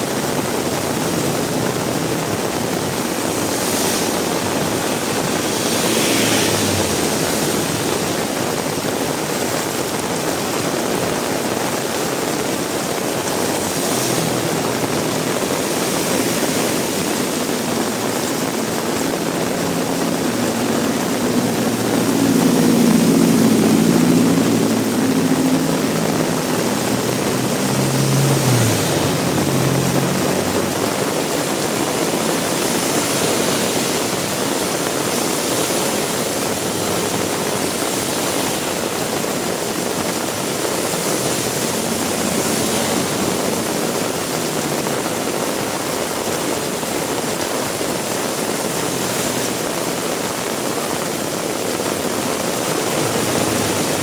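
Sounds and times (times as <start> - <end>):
heavy rain falling: 0.0 - 54.0
vehicle engine passing: 0.0 - 54.0.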